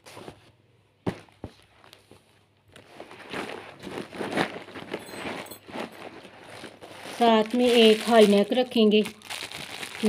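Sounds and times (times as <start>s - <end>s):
cloth rustling: 1.4s - 10.0s.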